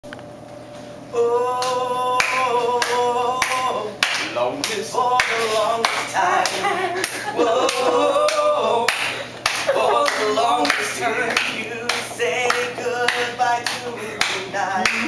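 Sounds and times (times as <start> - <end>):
men singing a cappella: 1.1 - 15.0
hands clapping a steady beat: 1.6 - 15.0.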